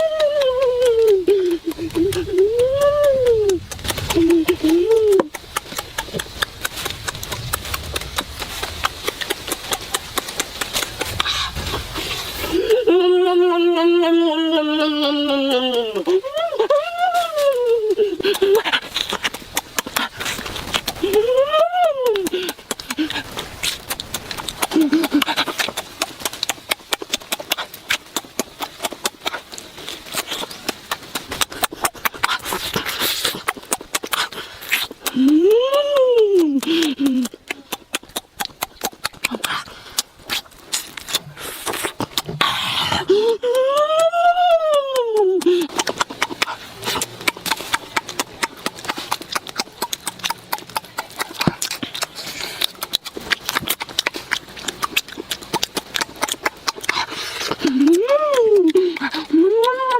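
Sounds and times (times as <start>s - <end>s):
person chewing with wet smacking: 0.0s - 59.9s.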